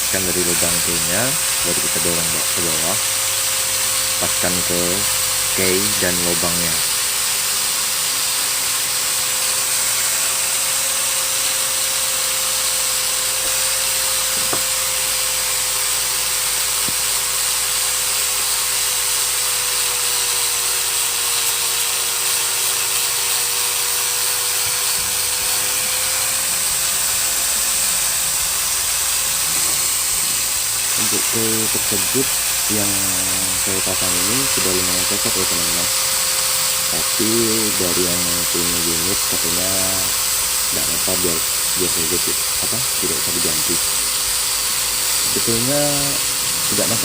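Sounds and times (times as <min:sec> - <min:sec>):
mechanical hum with whine: 0:00.0 - 0:47.0.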